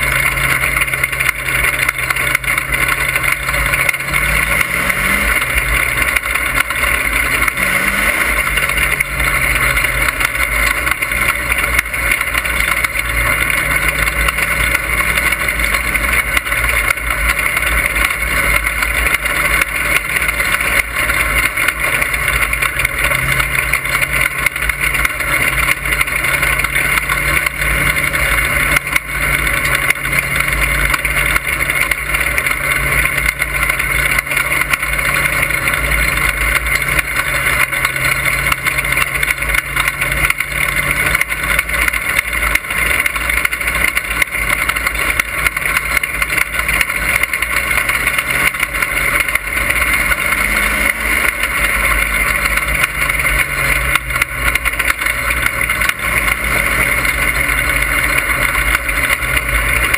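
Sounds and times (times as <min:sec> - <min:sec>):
race car engine droning: 0:00.0 - 0:59.9.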